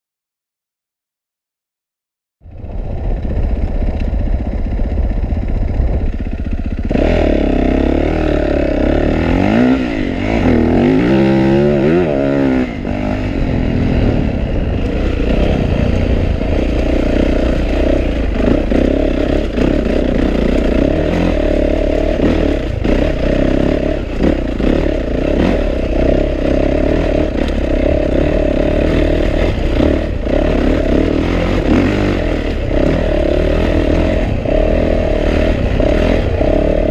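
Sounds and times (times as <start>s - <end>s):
motorcycle engine revving: 2.4s - 36.9s.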